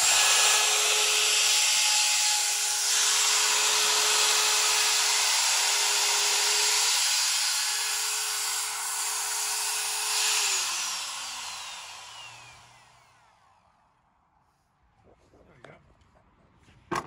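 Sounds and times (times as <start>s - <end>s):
router whining and spinning down: 0.0s - 14.1s.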